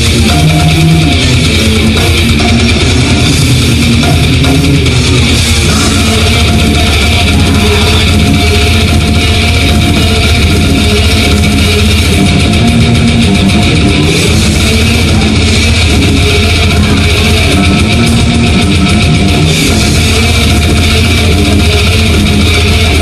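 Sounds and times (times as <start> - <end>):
death metal band playing live: 0.0 - 23.0.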